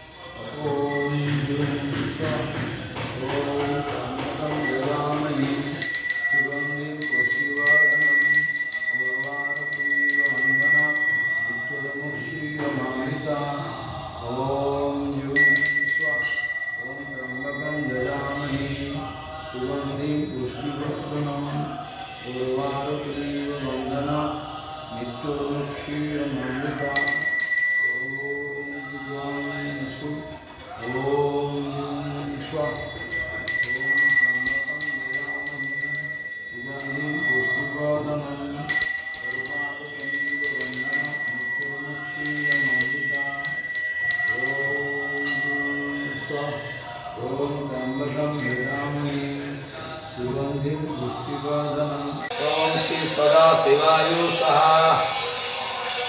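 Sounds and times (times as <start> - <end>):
hand bell ringing: 0.0 - 56.0
jingling percussion: 0.0 - 56.0
person chanting melody: 0.0 - 56.0.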